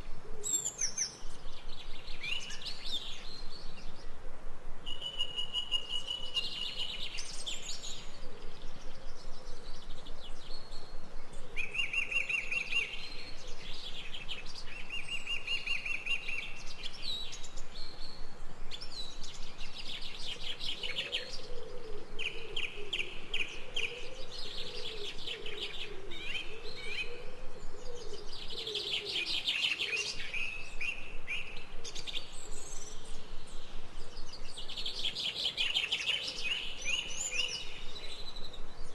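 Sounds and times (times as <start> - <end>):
outdoor background: 0.0 - 38.9.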